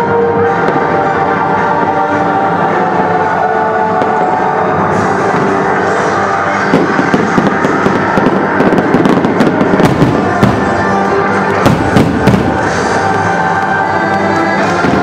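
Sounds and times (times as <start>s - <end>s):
fireworks bursting: 0.0s - 15.0s
music: 0.0s - 15.0s.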